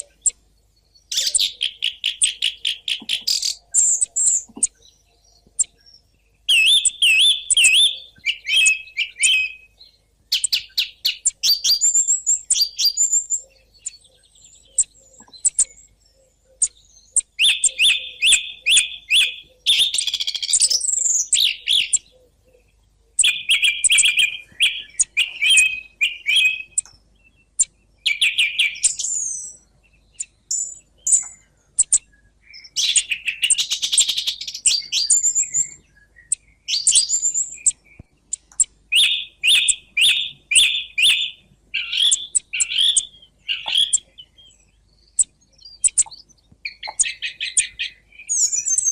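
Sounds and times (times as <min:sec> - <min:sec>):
song thrush singing: 0:00.0 - 0:48.9.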